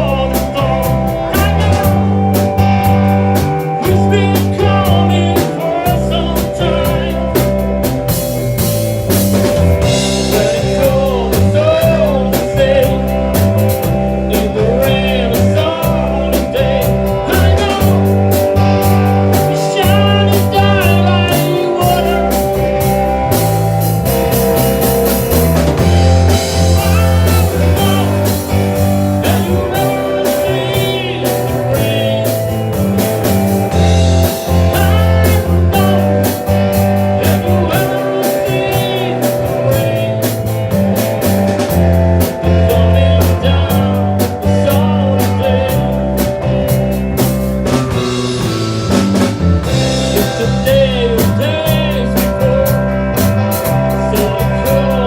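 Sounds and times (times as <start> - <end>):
rock band playing blues-rock: 0.0 - 55.0.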